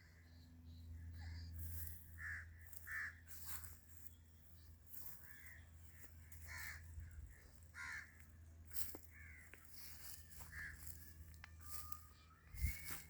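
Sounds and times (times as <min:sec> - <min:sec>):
birds calling: 0:00.0 - 0:13.0
steady low hum: 0:00.0 - 0:13.0.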